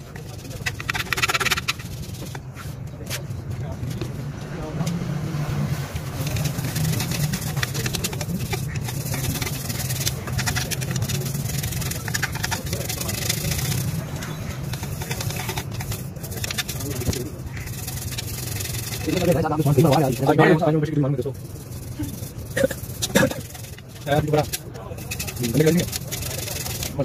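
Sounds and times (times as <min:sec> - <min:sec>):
bristles scrubbing on metal: 0:00.0 - 0:02.9, 0:05.6 - 0:27.0
steady low hum: 0:00.0 - 0:27.0.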